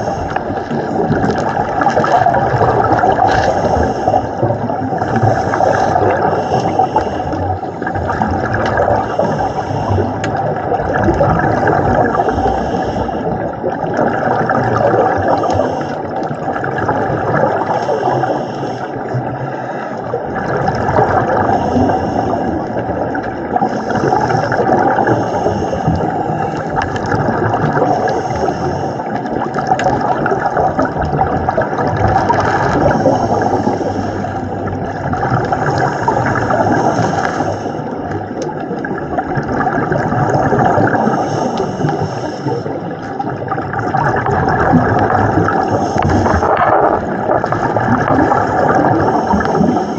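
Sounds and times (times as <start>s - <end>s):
underwater rushing and gurgling: 0.0s - 49.9s.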